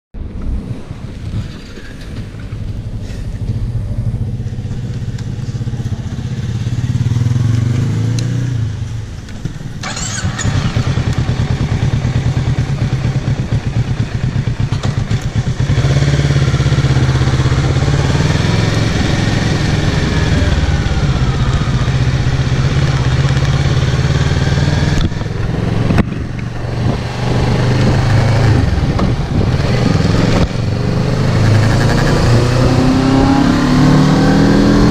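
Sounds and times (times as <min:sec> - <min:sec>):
motorcycle engine: 0:01.2 - 0:34.9.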